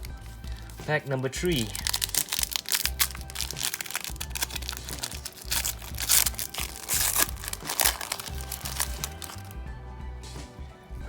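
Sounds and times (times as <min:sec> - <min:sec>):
wrapper crinkling and tearing: 0:00.0 - 0:00.9, 0:01.5 - 0:09.5
background music with low beat: 0:00.0 - 0:11.0.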